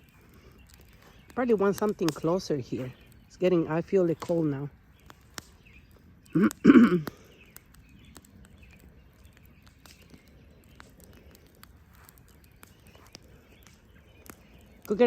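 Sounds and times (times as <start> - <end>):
campfire crackling: 0.0 - 15.0
small pops and clicks: 0.0 - 15.0.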